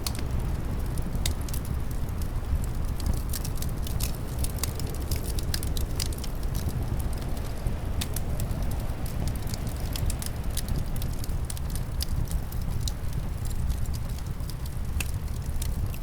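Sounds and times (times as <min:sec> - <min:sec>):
low rumble of wind: 0:00.0 - 0:16.0
wood fire crackling and popping: 0:00.0 - 0:16.0.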